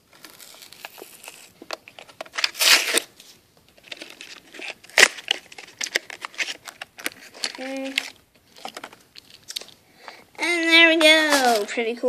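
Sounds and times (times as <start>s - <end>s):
plastic crinkling: 0.1s - 11.9s
card tearing: 0.2s - 3.2s, 3.8s - 9.8s, 10.5s - 11.7s.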